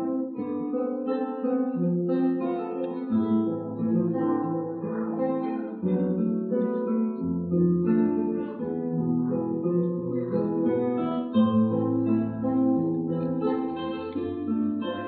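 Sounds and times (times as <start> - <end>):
classical guitars playing melody: 0.0 - 15.0.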